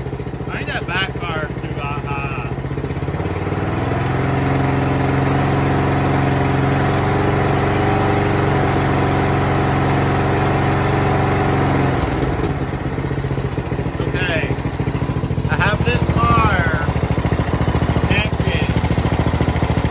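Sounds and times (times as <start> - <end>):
riding lawnmower engine running: 0.0 - 19.9.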